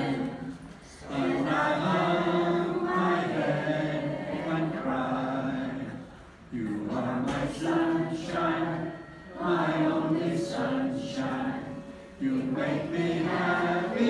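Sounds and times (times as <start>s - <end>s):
men singing unaccompanied: 1.0s - 14.0s.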